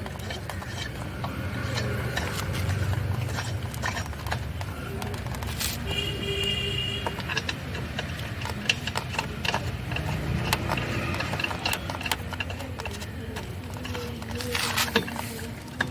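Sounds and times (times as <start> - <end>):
wheel nuts clinking: 0.0 - 15.9.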